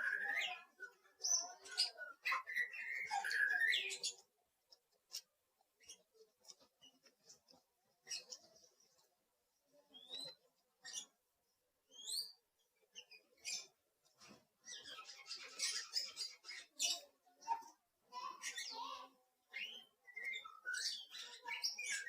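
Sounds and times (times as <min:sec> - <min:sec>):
bird chirping: 0:00.0 - 0:11.2, 0:11.8 - 0:22.0.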